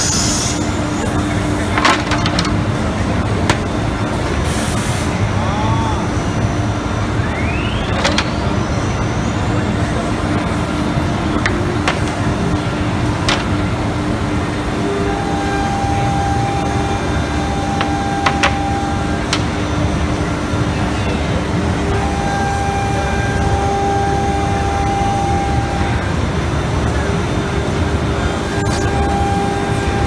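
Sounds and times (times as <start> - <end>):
cnc router rumble and hum: 0.0 - 30.0
high steady whine: 0.0 - 30.0.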